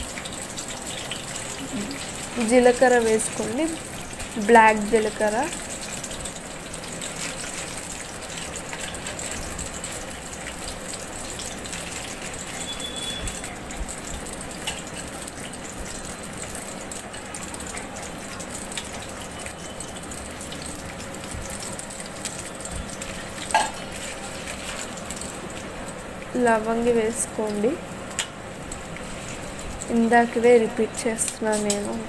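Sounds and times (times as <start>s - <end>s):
hot oil sizzling: 0.0s - 32.0s
oil popping: 0.1s - 26.4s.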